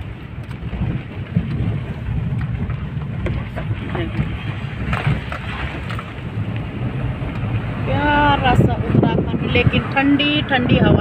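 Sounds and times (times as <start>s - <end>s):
car interior rumble: 0.0s - 11.0s
wind buffeting: 0.0s - 11.0s.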